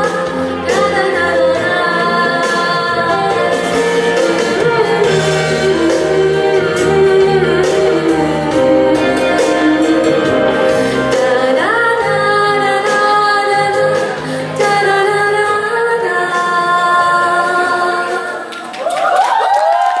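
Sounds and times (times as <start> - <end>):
woman singing a ballad: 0.0 - 18.6
musical accompaniment: 0.0 - 19.9.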